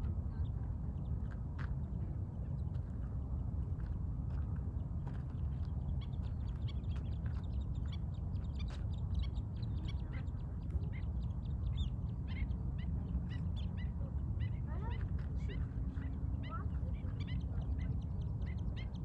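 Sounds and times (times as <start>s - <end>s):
flock of birds chirping: 0.0s - 19.0s
steady low rumble: 0.0s - 19.0s.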